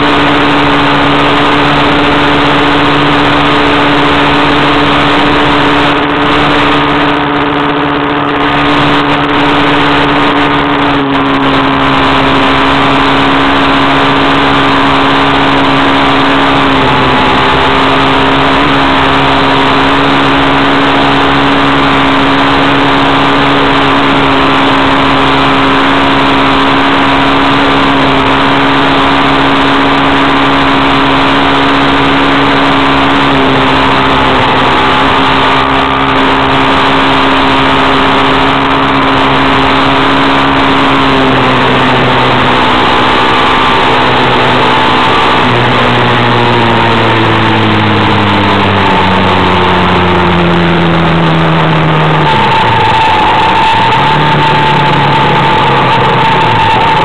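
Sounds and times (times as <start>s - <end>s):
road and wind noise: 0.0s - 57.0s
vehicle engine running: 0.0s - 57.0s.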